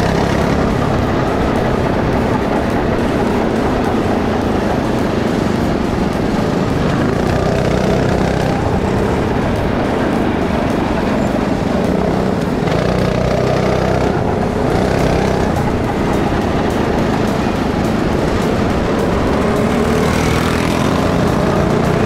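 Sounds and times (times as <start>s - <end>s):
go-kart engine droning: 0.0s - 22.0s.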